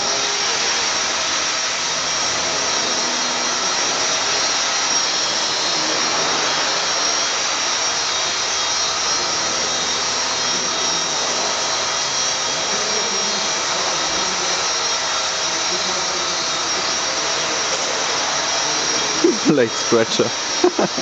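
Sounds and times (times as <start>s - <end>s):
rc helicopter motor whine: 0.0s - 21.0s
rotor blades whirring: 0.0s - 21.0s.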